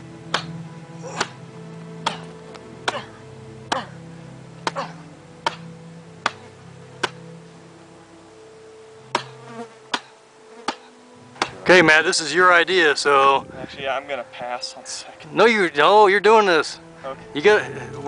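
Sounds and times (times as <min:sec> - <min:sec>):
held low music tones: 0:00.0 - 0:18.0.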